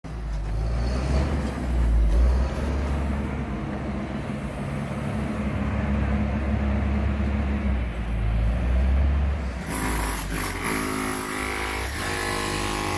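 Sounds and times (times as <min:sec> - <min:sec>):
backhoe diesel engine running: 0:00.1 - 0:12.9.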